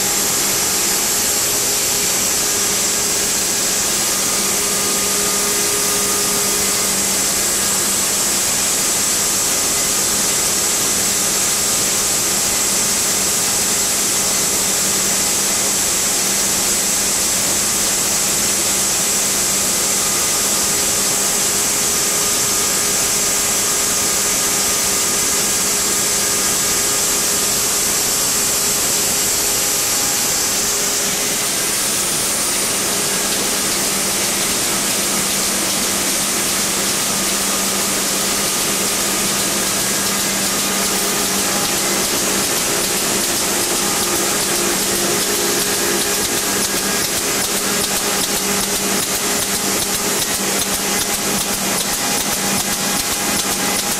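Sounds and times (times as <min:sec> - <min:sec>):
production line machine noise: 0:00.0 - 0:53.9.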